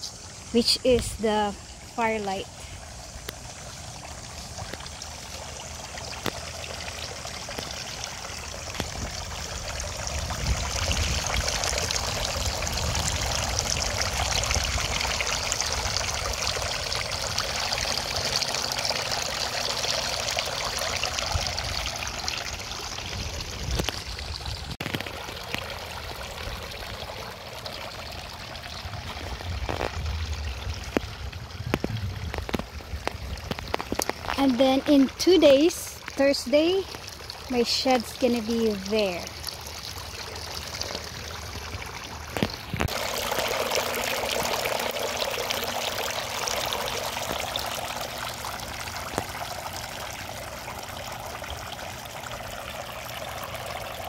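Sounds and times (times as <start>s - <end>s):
fountain water splashing into basin: 0.0s - 54.0s.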